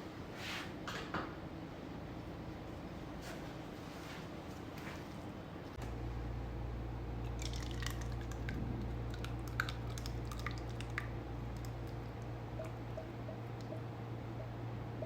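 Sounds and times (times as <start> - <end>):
steady low hum: 1.3 - 15.0.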